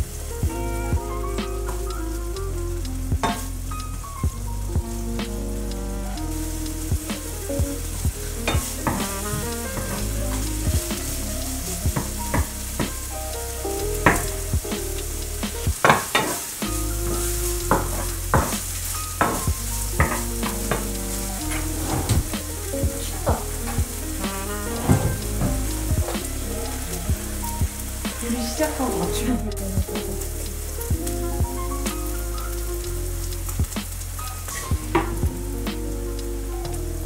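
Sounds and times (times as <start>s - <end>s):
food sizzling in hot oil: 0.0s - 37.0s
light background music: 0.0s - 37.0s.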